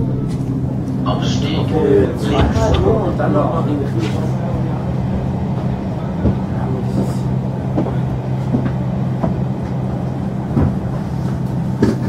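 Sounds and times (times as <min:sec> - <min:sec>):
train hum: 0:00.0 - 0:12.0.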